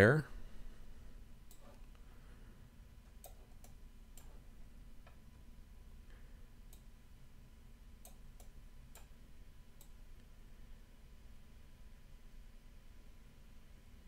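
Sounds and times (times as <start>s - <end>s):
low steady room hum: 0.0s - 14.0s.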